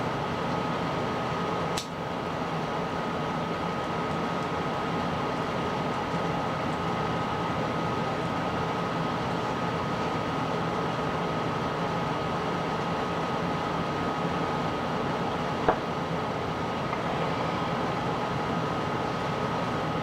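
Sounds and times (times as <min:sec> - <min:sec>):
background hiss and hum: 0:00.0 - 0:20.0.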